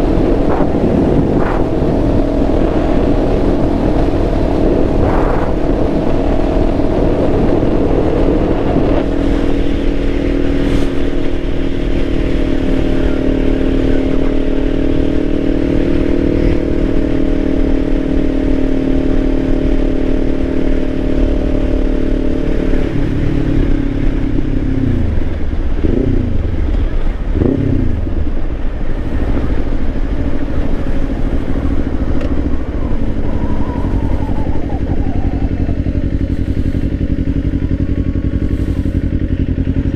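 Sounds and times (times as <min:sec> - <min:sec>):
wind noise: 0:00.0 - 0:25.2, 0:28.4 - 0:39.2
motorcycle engine cruising: 0:00.0 - 0:39.9.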